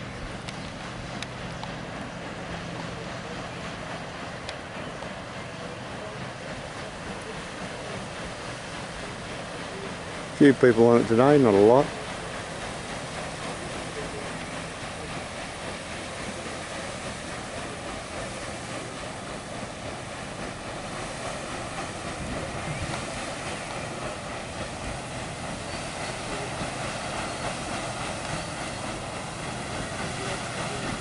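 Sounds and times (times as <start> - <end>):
rush of churned water: 0.0 - 31.0.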